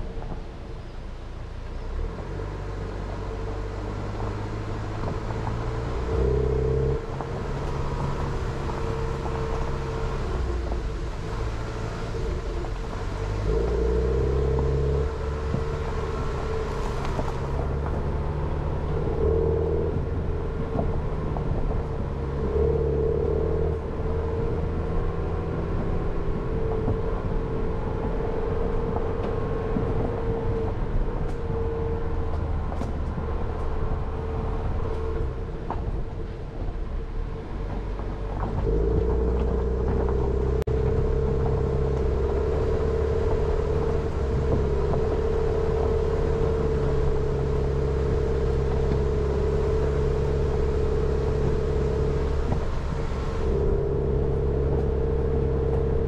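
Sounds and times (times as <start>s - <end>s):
tyres rumbling on gravel: 1.6s - 56.0s
car engine revving: 1.7s - 56.0s.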